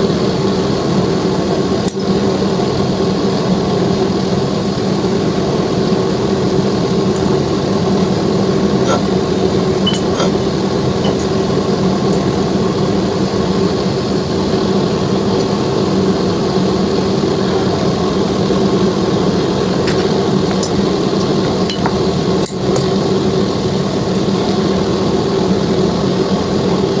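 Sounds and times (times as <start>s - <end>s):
loud machine hum: 0.0s - 27.0s.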